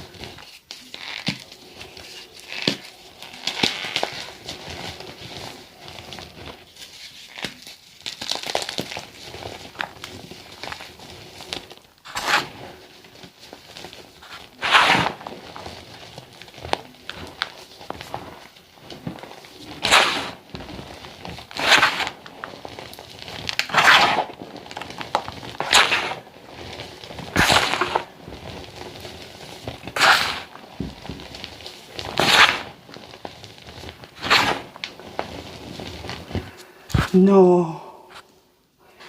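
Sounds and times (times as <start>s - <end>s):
chalk and sand crunching: 0.0s - 37.3s.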